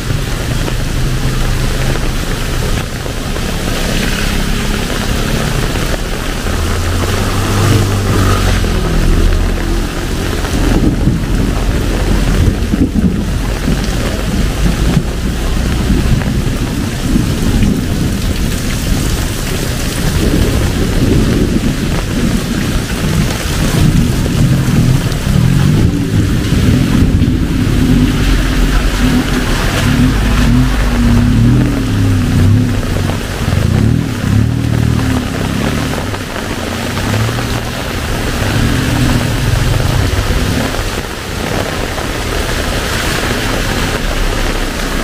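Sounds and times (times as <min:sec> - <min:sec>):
heavy rain pouring: 0:00.0 - 0:45.0
low rumble: 0:00.0 - 0:45.0.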